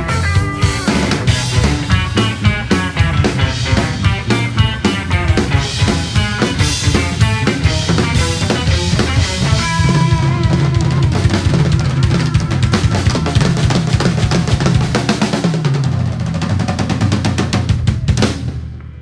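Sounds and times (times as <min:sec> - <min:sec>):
drum kit fill: 0:00.0 - 0:19.0
rock band playing: 0:00.0 - 0:19.0.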